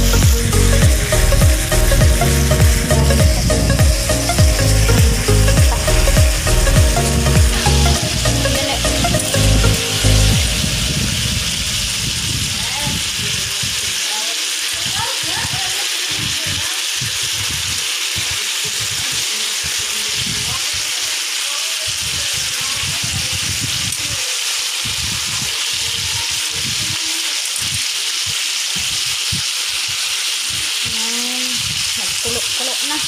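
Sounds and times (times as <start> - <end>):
chicken sizzling on a grill pan: 0.0 - 33.0.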